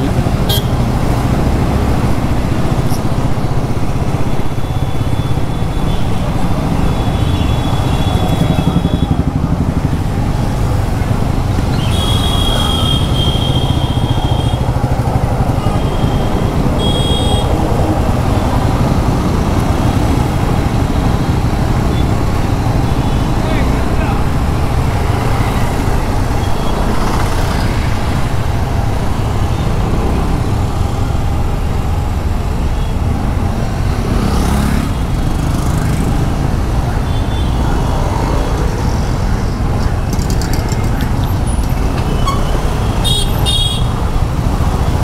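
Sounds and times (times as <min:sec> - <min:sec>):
scooter engine and road noise: 0:00.0 - 0:45.0.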